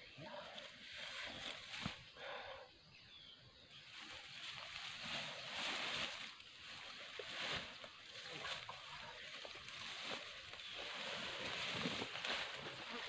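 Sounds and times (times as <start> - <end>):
leaves and stems rustling: 0.0 - 2.4, 3.7 - 13.0.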